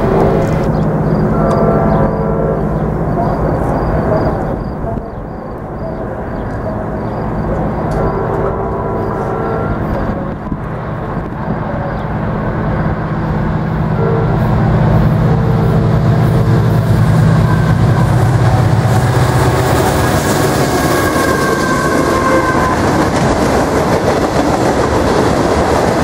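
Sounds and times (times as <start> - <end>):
diesel locomotive drone: 0.0 - 26.0
train cars rumbling past: 0.0 - 26.0.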